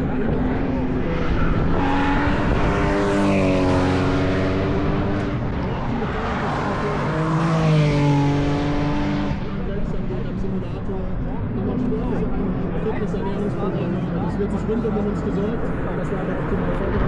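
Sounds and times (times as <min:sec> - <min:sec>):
race car engines passing: 0:00.0 - 0:17.0.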